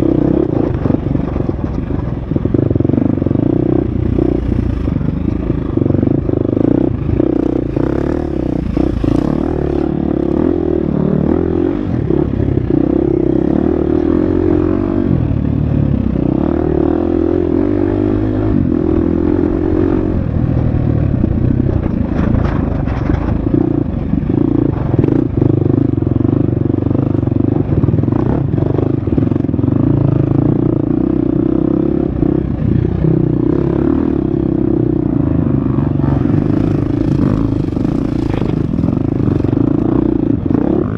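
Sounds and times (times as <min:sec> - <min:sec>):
dirt bike engine revving: 0:02.4 - 0:27.1, 0:27.7 - 0:40.9.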